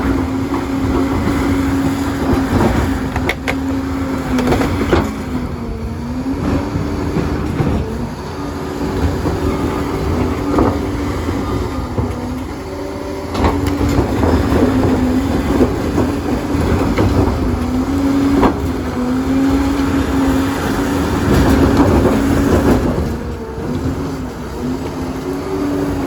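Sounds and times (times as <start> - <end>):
bulldozer diesel engine droning: 0.0 - 26.0
steel tracks clanking: 0.0 - 26.0.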